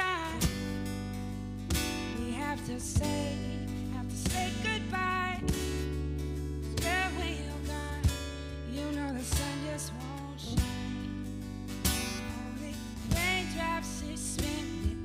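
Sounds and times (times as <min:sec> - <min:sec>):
acoustic guitar strumming: 0:00.0 - 0:15.0
sustained keyboard chords: 0:00.0 - 0:15.0.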